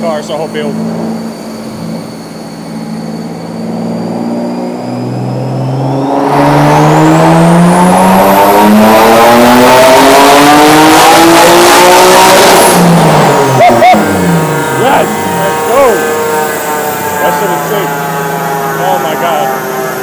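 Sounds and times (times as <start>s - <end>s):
car engine revving: 0.0s - 20.0s
high whine: 0.0s - 20.0s.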